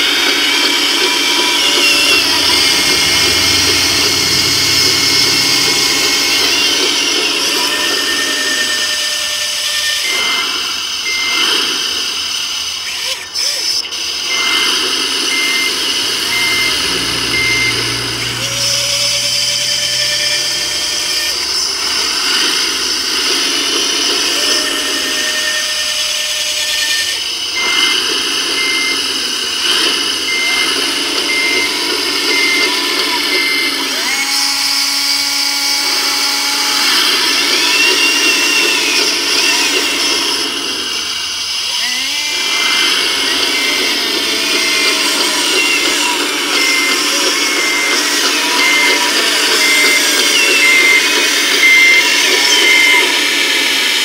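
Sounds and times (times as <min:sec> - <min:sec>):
electric motors whining: 0:00.0 - 0:54.0
reversing beeper short beeps: 0:00.1 - 0:11.7, 0:13.0 - 0:29.2, 0:29.8 - 0:34.2, 0:41.8 - 0:54.0.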